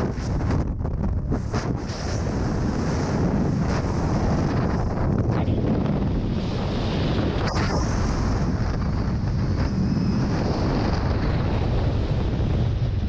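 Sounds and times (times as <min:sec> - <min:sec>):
freefall wind buffeting microphone: 0:00.0 - 0:13.0.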